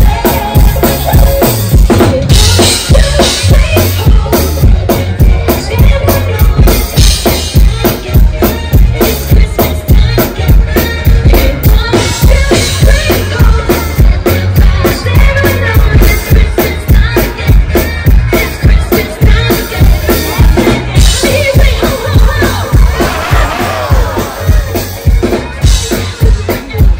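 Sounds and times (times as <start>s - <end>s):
bass: 0.0s - 26.9s
drum kit beat: 0.0s - 26.9s
person singing: 2.2s - 26.9s.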